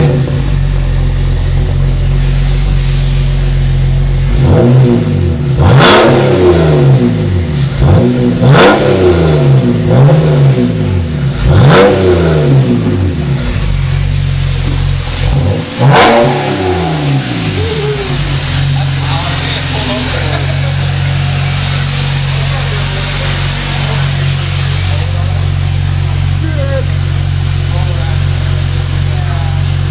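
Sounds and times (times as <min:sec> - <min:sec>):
car engine idling and revving: 0:00.0 - 0:29.9.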